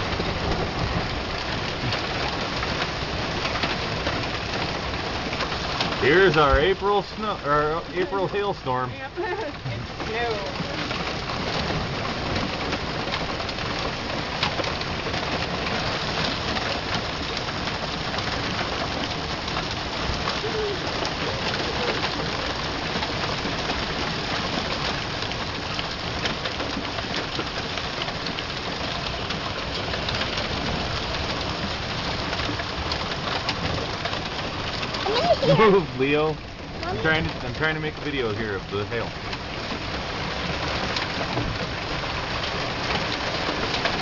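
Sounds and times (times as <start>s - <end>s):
hailstones pattering: 0.0s - 44.0s.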